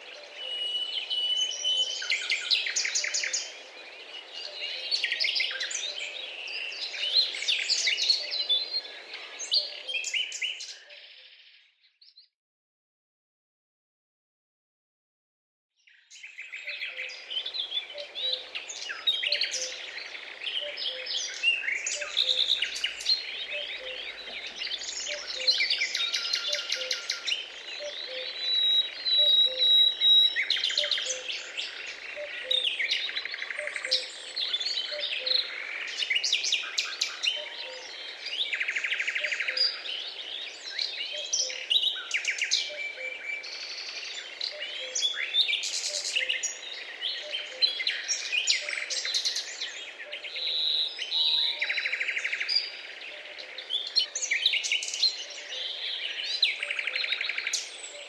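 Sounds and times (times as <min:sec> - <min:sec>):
small birds chirping: 0:00.0 - 0:12.3, 0:15.8 - 0:58.0.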